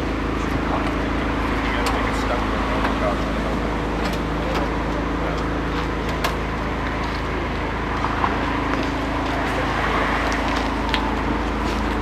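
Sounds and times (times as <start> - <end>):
car engine idling: 0.0 - 12.0
outdoor background noise: 0.0 - 12.0.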